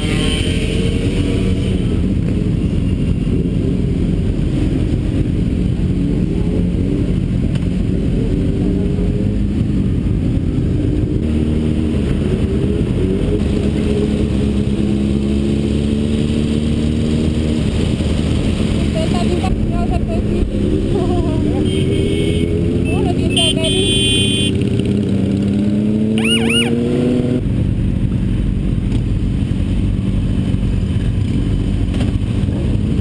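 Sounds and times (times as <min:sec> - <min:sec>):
motorcycle engine revving: 0:00.0 - 0:27.6
other motorcycles riding nearby: 0:00.0 - 0:33.0.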